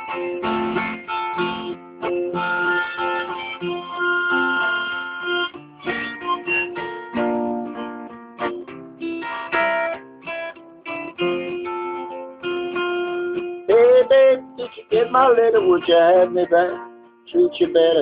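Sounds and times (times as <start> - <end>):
acoustic guitar blues run: 0.0 - 18.0.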